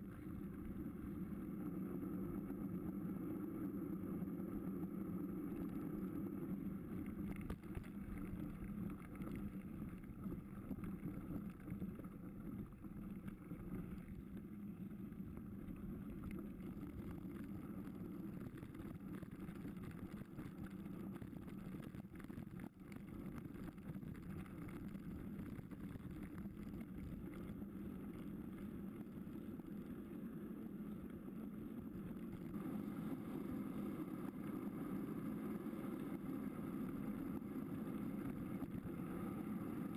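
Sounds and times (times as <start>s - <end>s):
bike tyres rolling on gravel: 5.2s - 39.9s.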